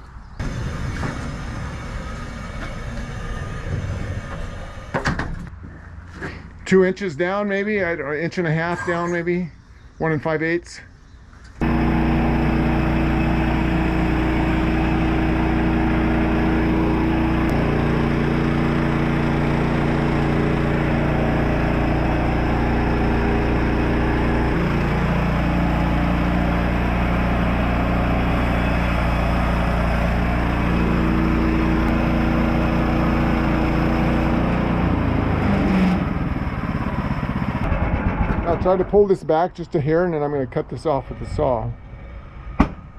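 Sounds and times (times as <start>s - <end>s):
bandsaw mill engine cutting log: 0.4s - 5.5s, 11.6s - 42.8s.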